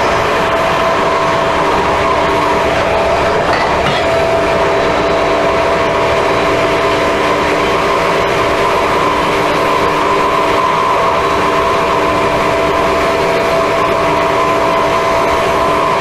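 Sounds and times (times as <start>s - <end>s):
electric locomotive motor hum: 0.0s - 16.0s
train rolling noise: 0.0s - 16.0s.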